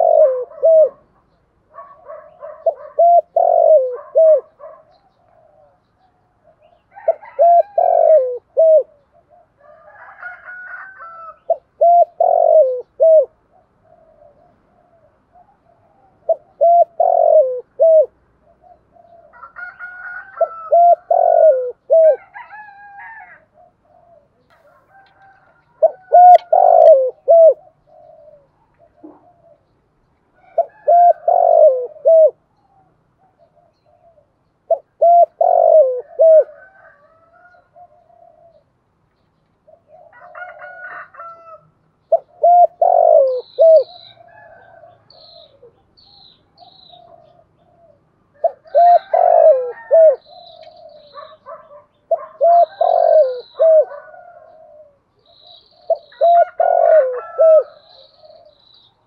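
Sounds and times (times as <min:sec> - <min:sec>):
dove cooing: 0:00.0 - 0:29.8, 0:30.4 - 0:38.8, 0:39.6 - 0:58.8.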